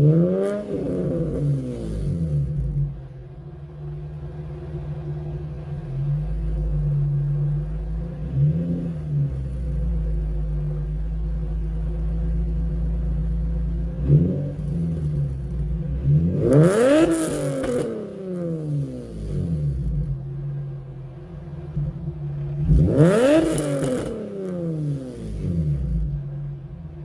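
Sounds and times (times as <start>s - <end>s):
car engine revving with raspy exhaust: 0.0s - 27.0s.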